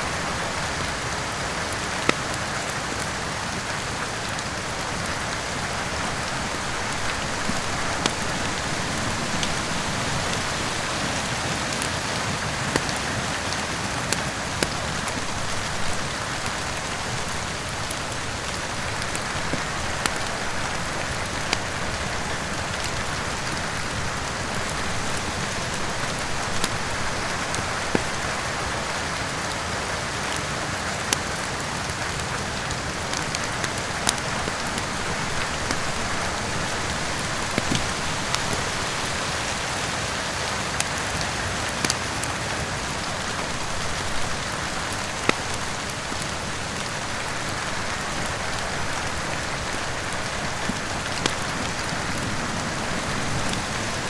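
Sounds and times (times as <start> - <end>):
steady rain falling: 0.0 - 54.0
wood fire crackling and popping: 0.0 - 54.0.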